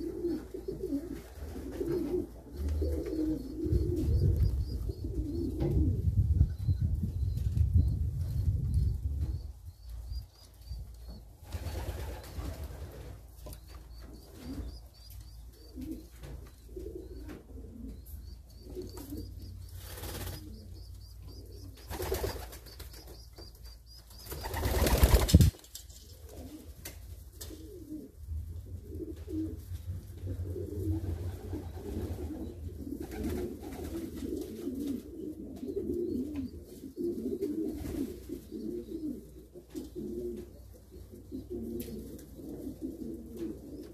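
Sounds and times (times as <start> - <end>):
pigeons cooing: 0.0 - 7.8, 10.8 - 22.8, 24.3 - 25.5, 27.4 - 43.9.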